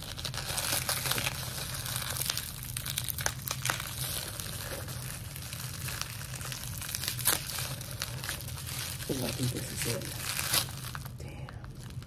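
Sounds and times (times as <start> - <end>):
bubble wrap crackles: 0.0 - 12.0
bubble wrap crinkling: 0.0 - 12.0.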